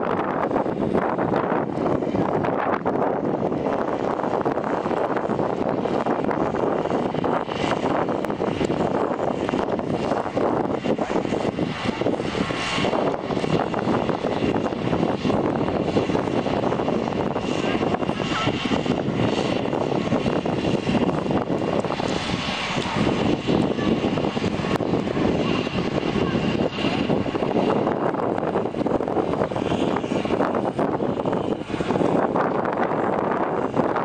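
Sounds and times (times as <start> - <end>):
wind on microphone: 0.0 - 34.0.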